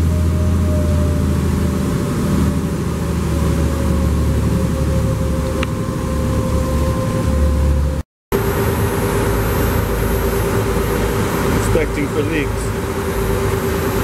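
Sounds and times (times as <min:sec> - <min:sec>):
gyrostabilizer hum and whine: 0:00.0 - 0:14.0.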